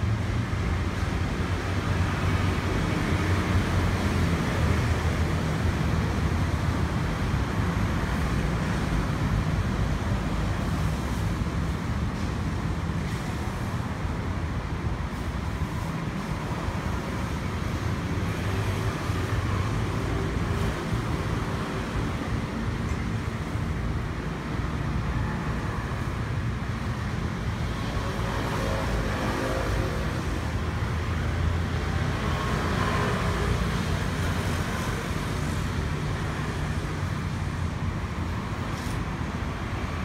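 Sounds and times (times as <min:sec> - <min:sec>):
low rumble of passing vehicles: 0:00.0 - 0:40.0.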